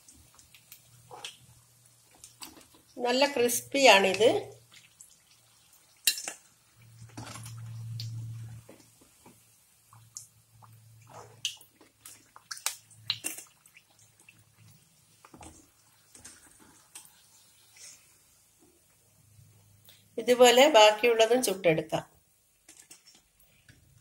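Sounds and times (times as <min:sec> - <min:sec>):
fritters deep-frying in oil: 0:00.0 - 0:21.5.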